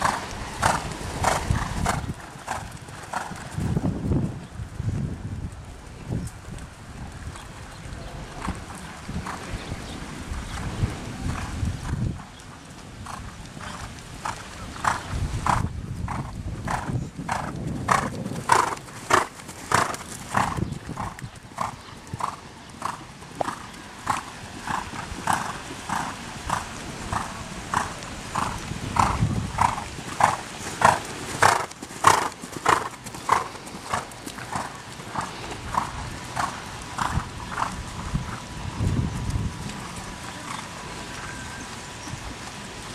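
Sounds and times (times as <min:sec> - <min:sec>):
horse hooves in sand: 0:00.0 - 0:42.9.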